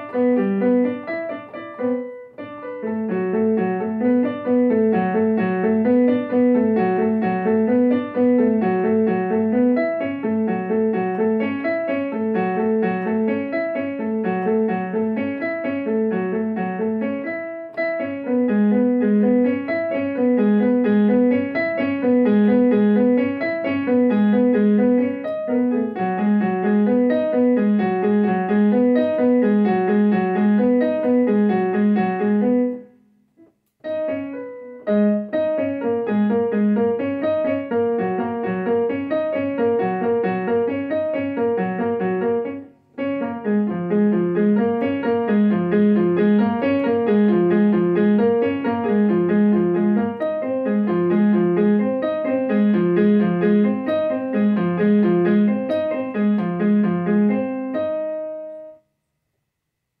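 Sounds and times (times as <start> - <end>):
keyboard piano arpeggios: 0.0 - 58.8.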